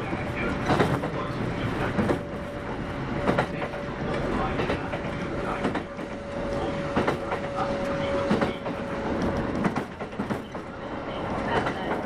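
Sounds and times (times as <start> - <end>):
rail-joint clacks: 0.0 - 12.0
train wheels rumbling on rail: 0.0 - 12.0.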